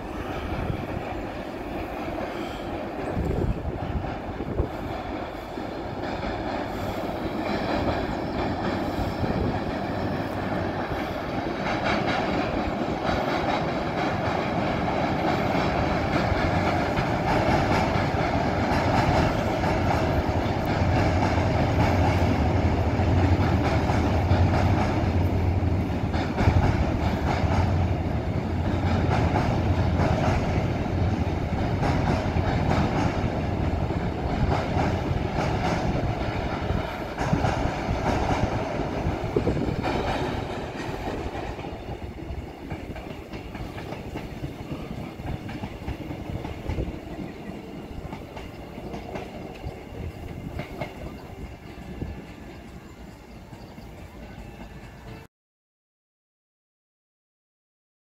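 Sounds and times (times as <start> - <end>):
train wheels rumbling on rails: 0.0 - 55.3.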